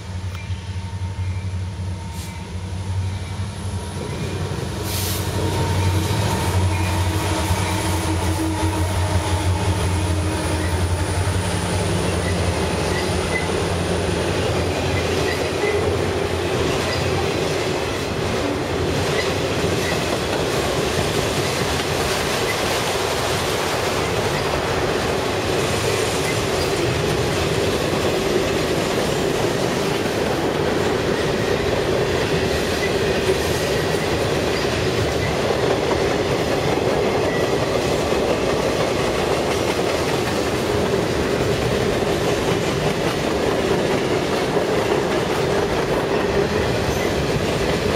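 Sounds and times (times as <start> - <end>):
diesel locomotive drone: 0.0 - 47.9
train wheels rolling on rails: 0.0 - 47.9.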